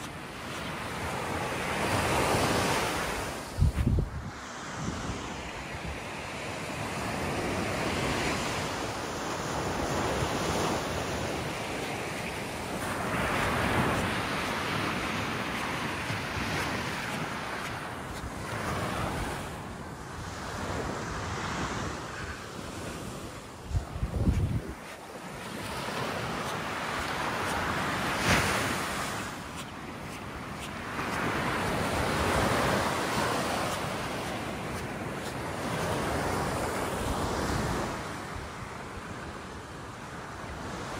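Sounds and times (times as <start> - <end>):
ocean surf breaking on beach: 0.0 - 40.9
wind buffeting microphone: 1.8 - 6.2, 9.4 - 38.6.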